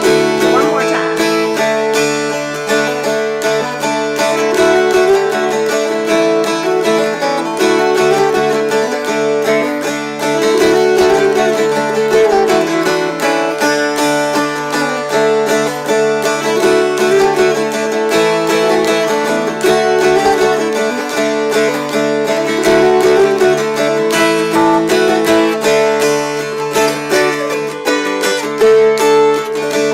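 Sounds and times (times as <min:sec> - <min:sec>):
mountain dulcimers strummed: 0:00.0 - 0:29.9.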